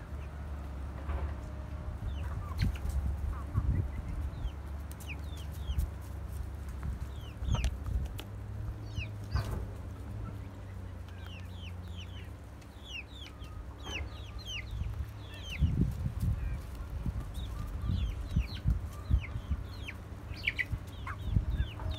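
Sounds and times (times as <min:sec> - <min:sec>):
chicks peeping and clucking: 0:00.0 - 0:21.9.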